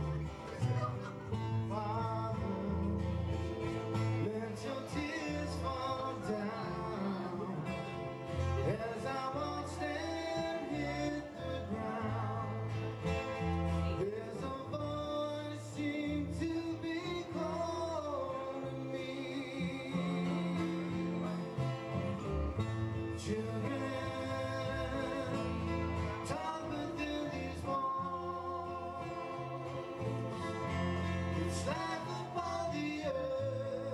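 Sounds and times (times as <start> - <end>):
acoustic guitar strumming: 0.0 - 33.9
people singing: 4.1 - 21.8, 23.2 - 33.9.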